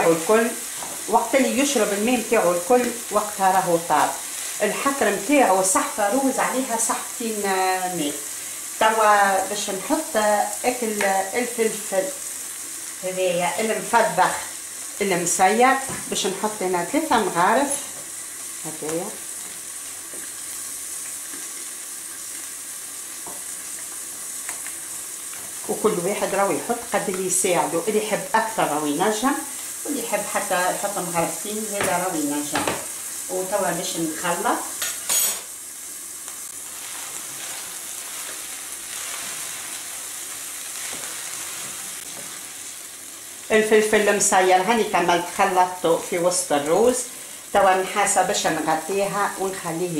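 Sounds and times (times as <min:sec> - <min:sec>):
fish sizzling in a frying pan: 0:00.0 - 0:49.9.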